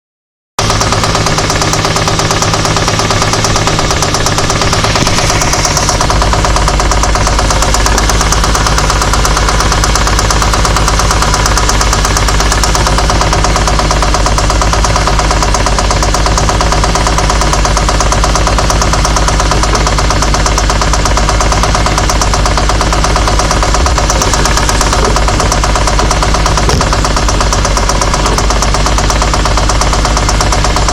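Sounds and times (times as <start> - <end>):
car engine knocking: 0.6 - 30.9
engine rumble: 0.6 - 30.9.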